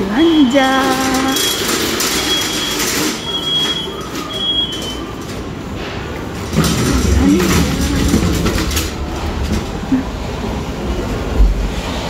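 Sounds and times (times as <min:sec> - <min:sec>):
moving walkway rumble: 0:00.0 - 0:12.0
shopping trolley rattling: 0:00.0 - 0:12.0.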